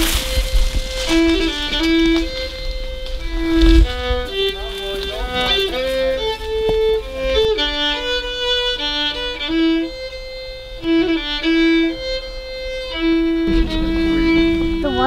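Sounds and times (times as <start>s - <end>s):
solo melody of held notes: 0.0s - 15.0s.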